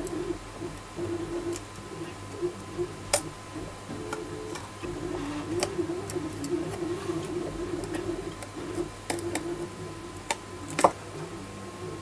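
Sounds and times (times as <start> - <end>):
faint low wavering hum: 0.0 - 12.0.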